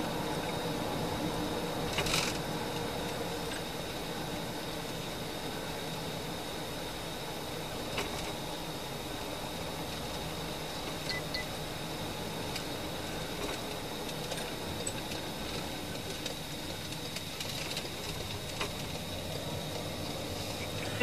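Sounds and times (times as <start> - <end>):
hum of engine and tyres: 0.0 - 21.0.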